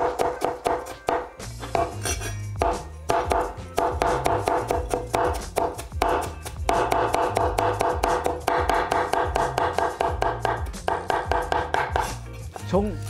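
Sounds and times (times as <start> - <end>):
cleaver chopping on cutting board: 0.0 - 12.7
background music: 0.0 - 13.0.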